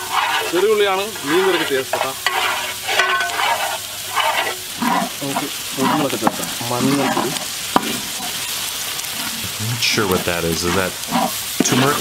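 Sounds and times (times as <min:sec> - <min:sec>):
metal ladle scraping pan: 0:00.0 - 0:08.5, 0:10.6 - 0:12.0
onions sizzling in oil: 0:00.0 - 0:12.0.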